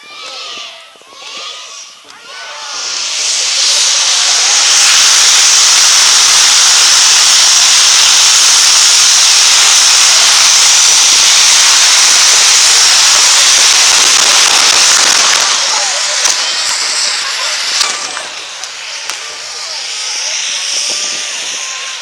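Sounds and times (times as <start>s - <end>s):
fireworks hissing sparks: 0.0s - 22.0s.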